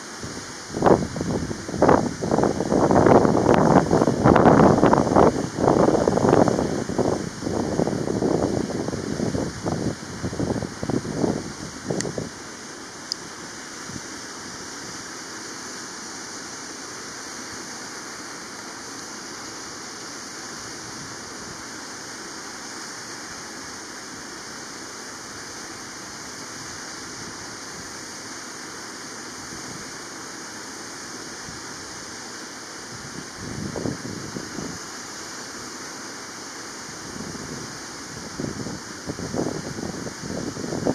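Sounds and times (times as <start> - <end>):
steady hissy rushing noise: 0.0 - 40.9.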